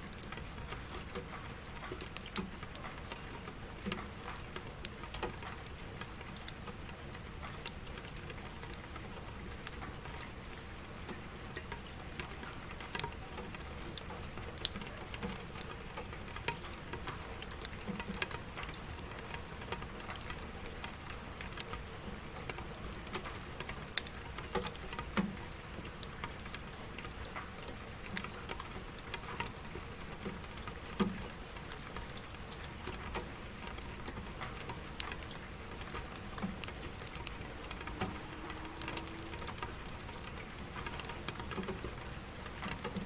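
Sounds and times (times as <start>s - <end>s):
raindrops pattering: 0.0s - 43.0s
steady rain: 0.0s - 43.0s.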